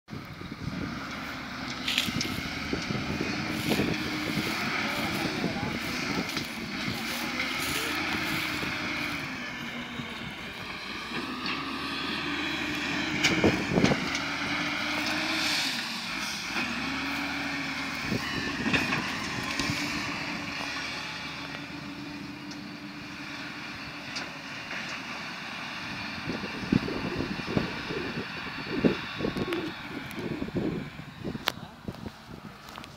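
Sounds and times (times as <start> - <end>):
wheel loader diesel engine: 0.1 - 32.9.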